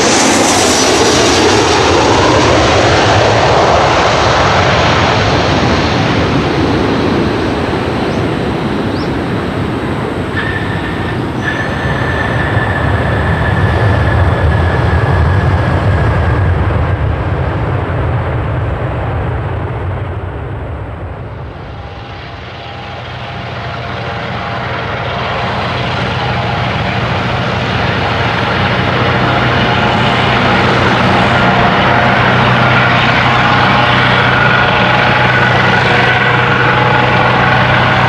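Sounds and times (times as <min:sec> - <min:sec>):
aircraft engine rumble and whine: 0:00.0 - 0:38.0.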